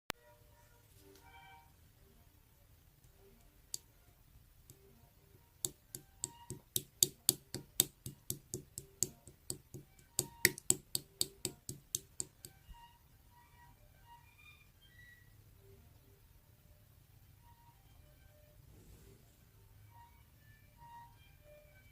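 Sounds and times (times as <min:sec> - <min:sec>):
faint soft background tones: 0:00.1 - 0:21.9.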